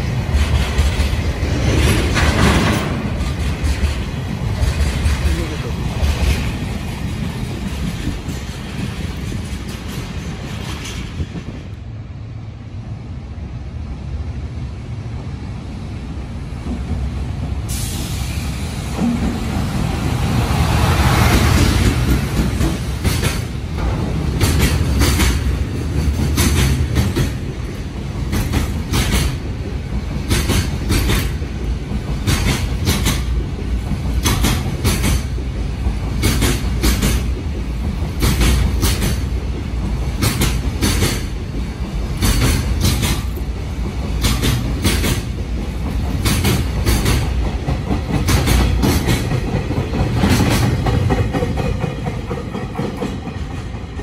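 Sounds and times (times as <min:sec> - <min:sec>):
wheels clacking over rail joints: 0:00.0 - 0:11.8, 0:18.9 - 0:54.0
train wheels rumbling on rail: 0:00.0 - 0:54.0.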